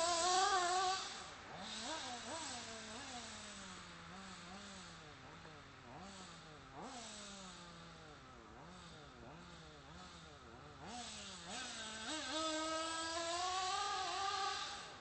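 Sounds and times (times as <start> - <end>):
small model engine revving: 0.0 - 15.0.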